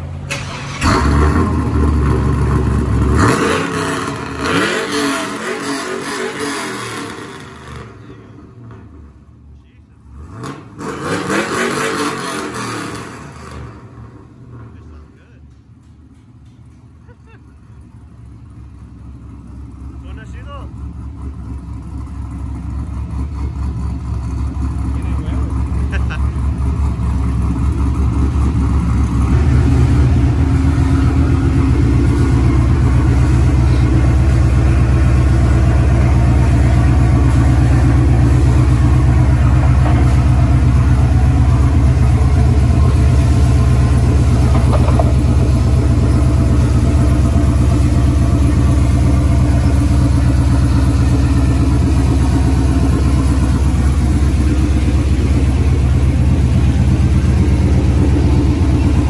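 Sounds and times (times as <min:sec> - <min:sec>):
car engine idling deep exhaust: 0:00.0 - 0:10.8, 0:13.1 - 0:59.0.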